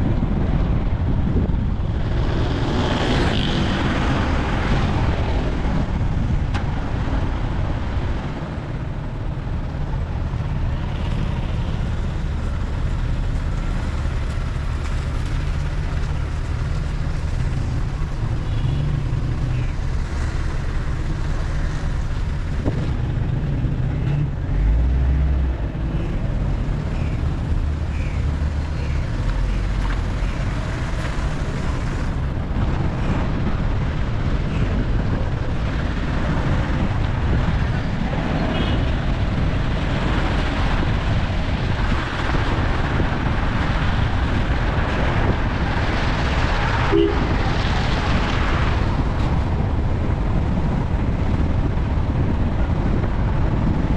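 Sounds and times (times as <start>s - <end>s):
vehicle rumbling on road: 0.0s - 53.9s
wind noise: 0.0s - 53.9s.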